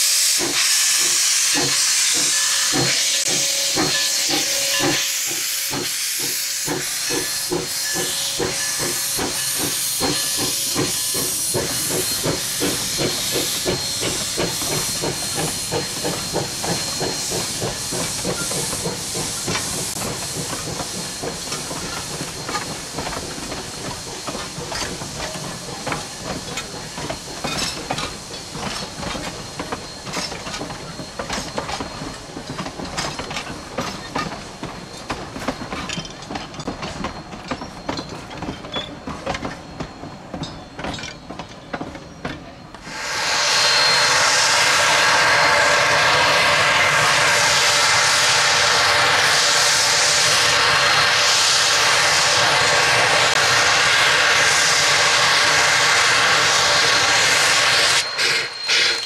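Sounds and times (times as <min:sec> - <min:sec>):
locomotive steam hiss: 0:00.0 - 0:35.9, 0:42.7 - 0:59.0
train wheels clicking over rail joints: 0:00.0 - 0:59.0.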